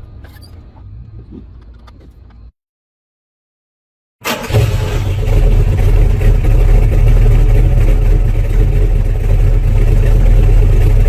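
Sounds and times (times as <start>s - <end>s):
car engine rumbling: 0.0s - 2.5s, 4.2s - 11.0s.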